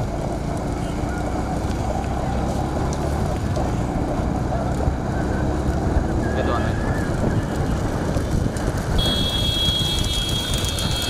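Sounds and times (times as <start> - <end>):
vehicle engine running: 0.0 - 11.0
wind rushing over microphone: 1.6 - 11.0.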